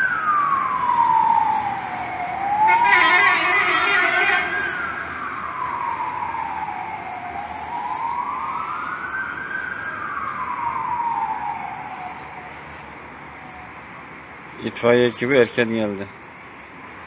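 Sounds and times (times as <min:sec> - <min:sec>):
fire engine siren wailing: 0:00.0 - 0:14.5.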